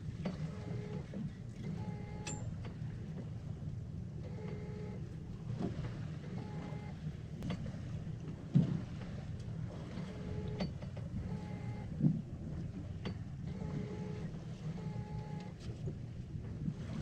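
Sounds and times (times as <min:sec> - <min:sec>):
boat engine idling: 0:00.0 - 0:17.0
wind: 0:00.0 - 0:17.0.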